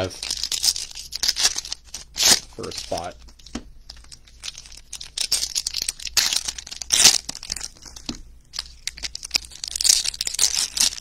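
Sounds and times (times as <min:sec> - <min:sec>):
card pack wrappers crinkling and tearing: 0:00.0 - 0:11.0.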